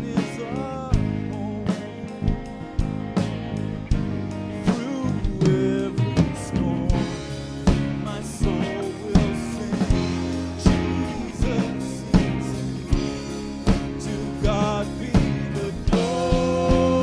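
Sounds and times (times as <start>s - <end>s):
person singing: 0.0s - 2.8s, 4.4s - 17.0s
drum kit beat: 0.0s - 17.0s
sustained band chords: 0.0s - 17.0s.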